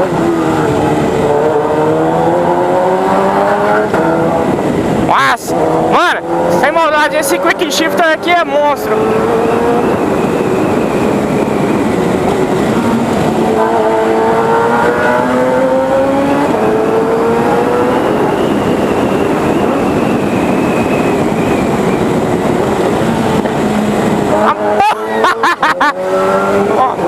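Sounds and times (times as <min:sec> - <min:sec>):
motorcycle engine accelerating: 0:00.0 - 0:27.0
wind rush: 0:00.0 - 0:27.0.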